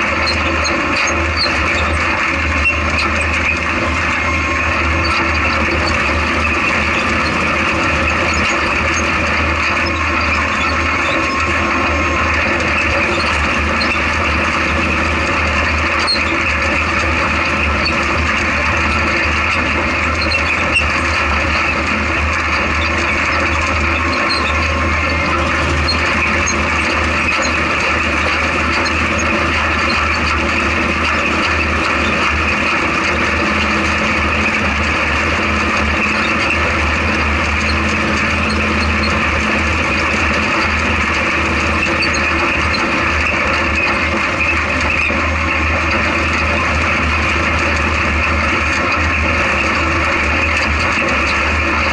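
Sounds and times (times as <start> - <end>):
chassis rattles: 0.0 - 51.9
vehicle engine running at speed: 0.0 - 51.9.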